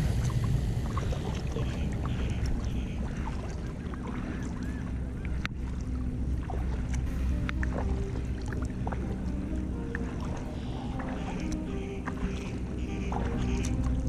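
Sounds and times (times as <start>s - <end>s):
low rumble: 0.0s - 14.0s
paddle strokes in water: 0.0s - 14.0s
water drips and splashes: 0.0s - 14.0s.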